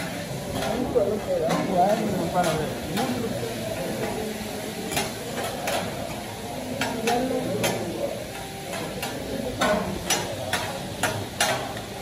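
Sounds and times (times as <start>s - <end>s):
meat and shrimp sizzling: 0.0s - 12.0s.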